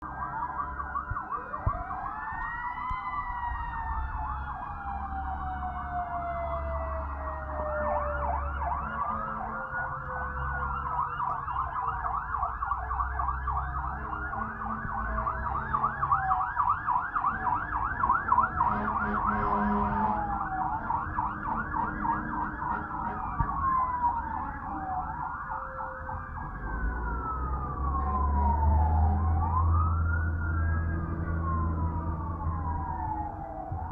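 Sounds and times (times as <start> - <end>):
fast siren yelp: 0.0 - 33.9
fire truck sirens wailing: 0.0 - 33.9.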